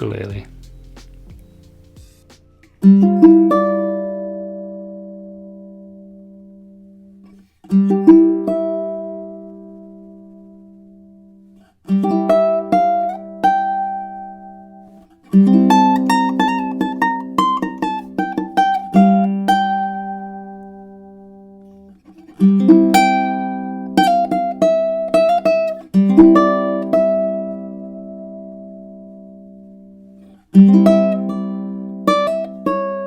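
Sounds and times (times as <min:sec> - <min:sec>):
ukulele playing: 0:00.0 - 0:06.9, 0:07.7 - 0:11.2, 0:11.9 - 0:21.6, 0:22.2 - 0:29.7, 0:30.6 - 0:33.0.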